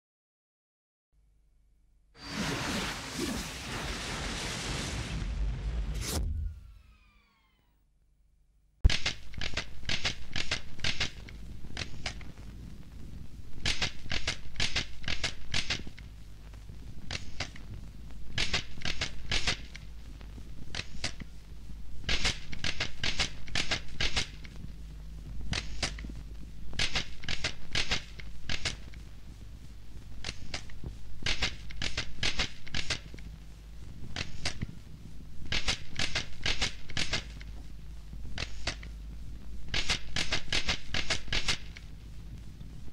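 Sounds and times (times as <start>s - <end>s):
low steady hum: 1.2s - 42.9s.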